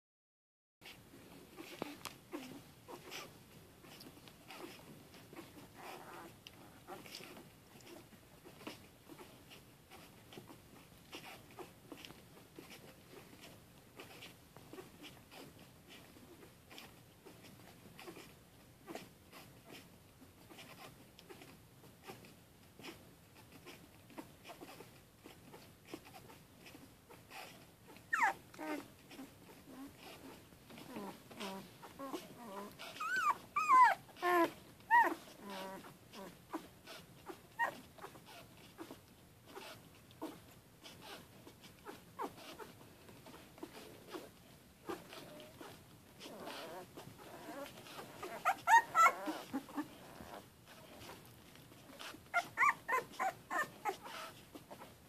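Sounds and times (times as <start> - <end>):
puppies squeaking and snuffling: 0.8 - 55.0.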